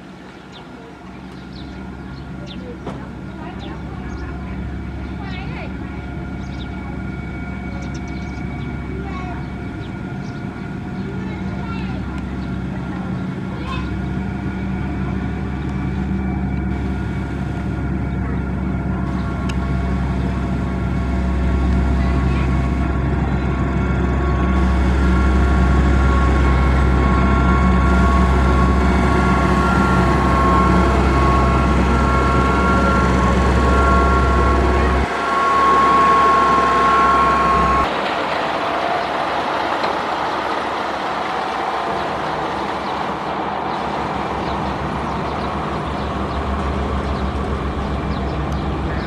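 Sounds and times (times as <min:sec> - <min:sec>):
diesel engine rumbling: 0:00.0 - 0:49.0
steady machine whine: 0:00.0 - 0:49.0
rough machine noise: 0:01.3 - 0:49.0.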